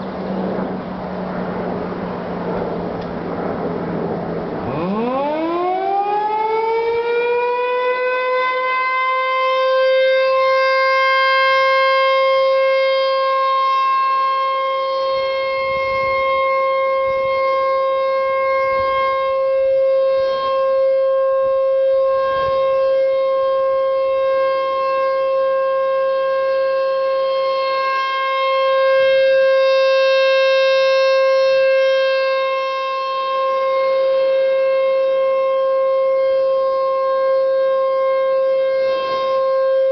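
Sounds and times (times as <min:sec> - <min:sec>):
rotating warning siren winding up: 0:00.0 - 0:39.9.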